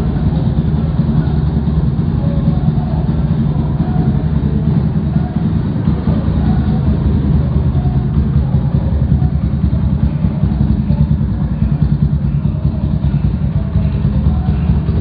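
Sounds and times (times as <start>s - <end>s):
atv engine idling: 0.0s - 15.0s.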